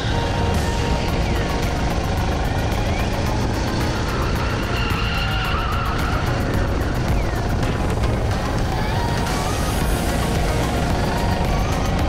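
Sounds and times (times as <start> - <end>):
go-kart engine running: 0.0 - 12.0
road noise: 0.0 - 12.0.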